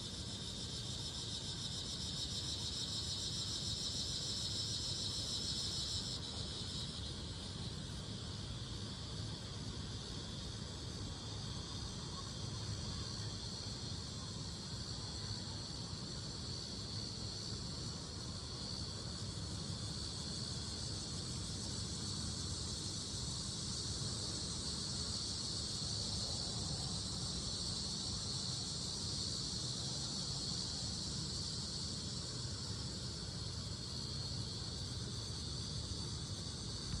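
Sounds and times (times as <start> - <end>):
cicadas singing: 0.0 - 37.0.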